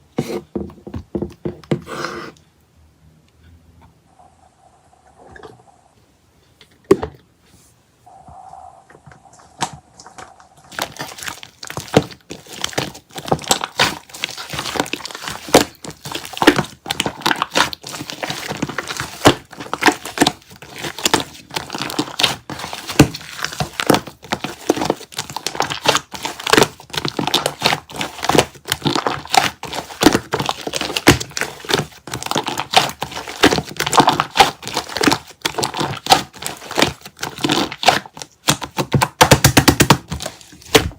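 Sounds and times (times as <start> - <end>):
slime crackling: 8.1 - 40.9.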